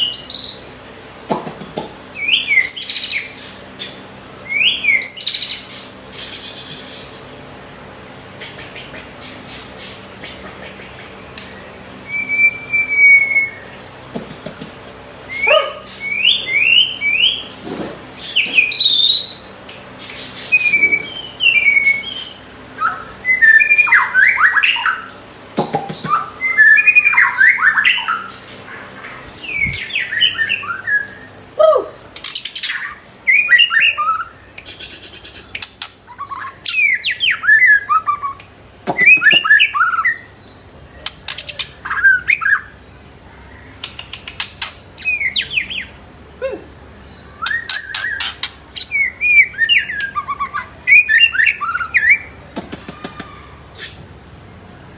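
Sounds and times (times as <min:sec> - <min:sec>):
songbird singing: 0:02.1 - 0:17.6, 0:18.2 - 0:54.9.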